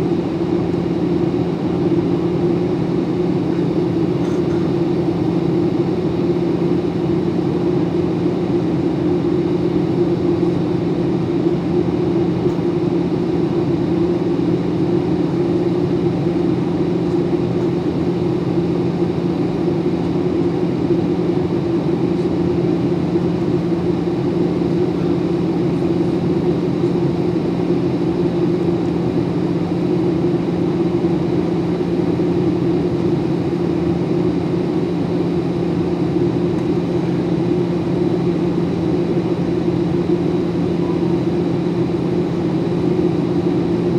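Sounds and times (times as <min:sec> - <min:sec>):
airplane cabin drone: 0:00.0 - 0:43.9.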